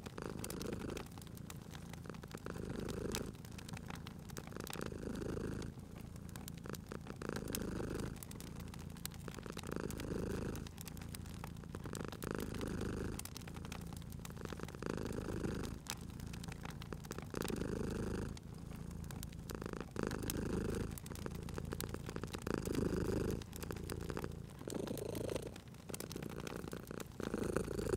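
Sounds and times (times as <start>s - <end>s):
cat purring: 0.0s - 27.9s
wood fire crackling: 0.0s - 27.9s.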